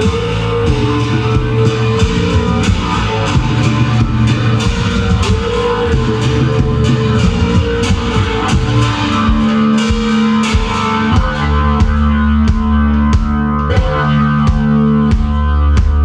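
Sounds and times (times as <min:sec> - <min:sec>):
drum-kit hits: 0:00.0 - 0:16.0
rock band playing: 0:00.0 - 0:16.0.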